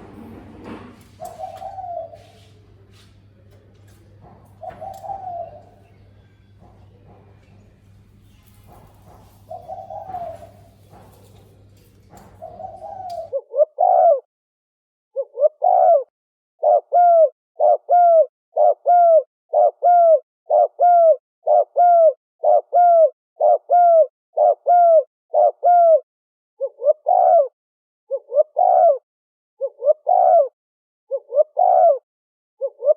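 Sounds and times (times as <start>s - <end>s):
dove cooing: 0.0s - 2.8s, 4.1s - 7.1s, 9.0s - 14.3s, 15.2s - 26.0s, 26.6s - 29.0s, 29.6s - 32.0s, 32.6s - 32.9s.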